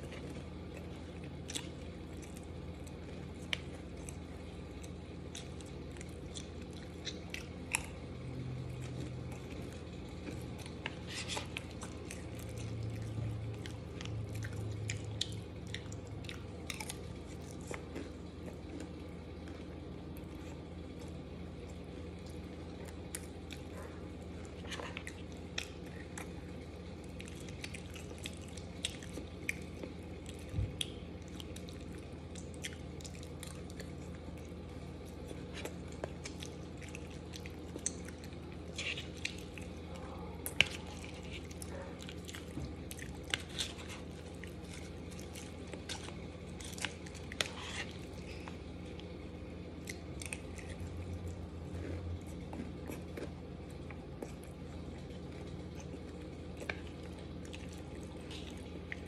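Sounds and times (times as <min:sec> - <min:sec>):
person chewing: 0:00.0 - 0:59.0
steady low hum: 0:00.0 - 0:59.0.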